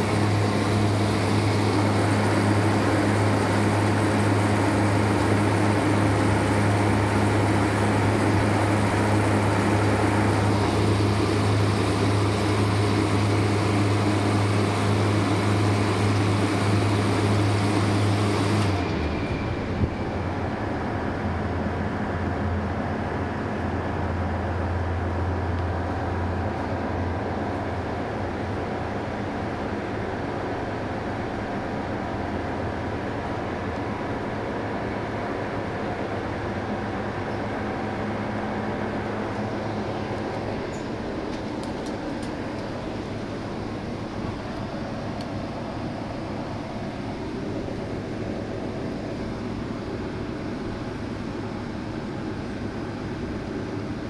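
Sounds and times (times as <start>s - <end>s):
compressor and fans humming: 0.0s - 54.0s.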